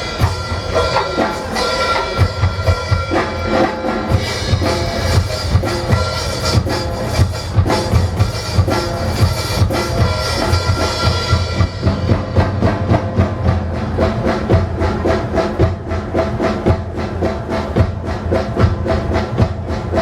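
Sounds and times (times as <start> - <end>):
percussion ensemble playing drums: 0.0 - 20.0.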